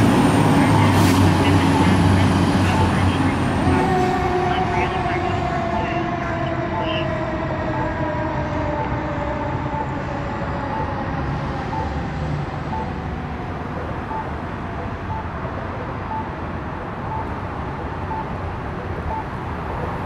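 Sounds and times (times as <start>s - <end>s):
diesel engine running: 0.0s - 18.5s
street traffic: 0.0s - 20.0s.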